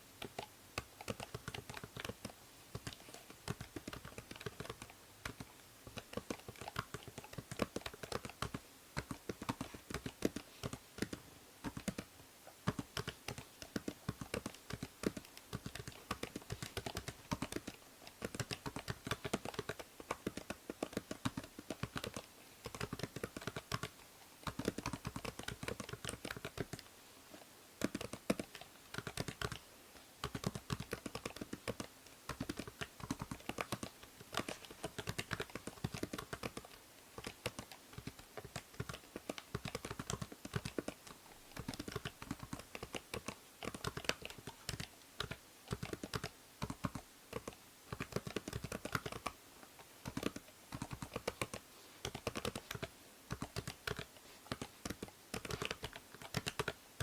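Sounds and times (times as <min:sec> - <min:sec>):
faint microphone hiss: 0:00.0 - 0:57.0.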